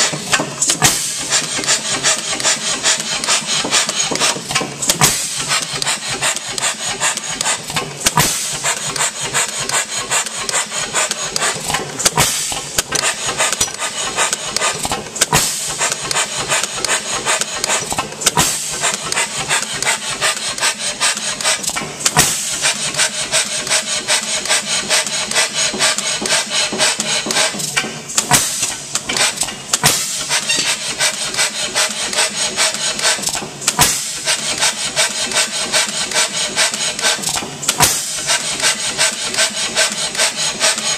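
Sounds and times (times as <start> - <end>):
gas engine clattering: 0.0 - 40.9.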